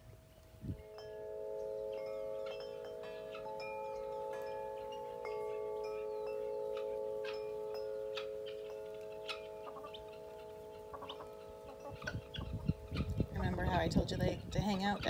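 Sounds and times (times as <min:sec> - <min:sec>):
metal tubular wind chime ringing: 0:00.0 - 0:15.0.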